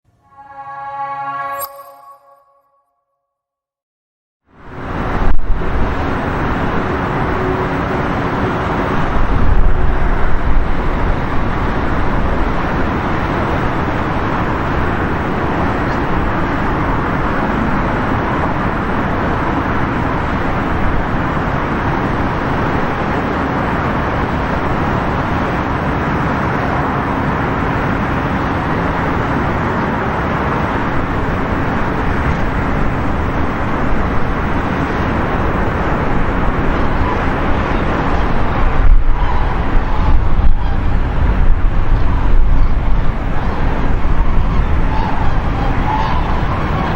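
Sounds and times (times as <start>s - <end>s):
jet engine roar: 4.8s - 46.9s.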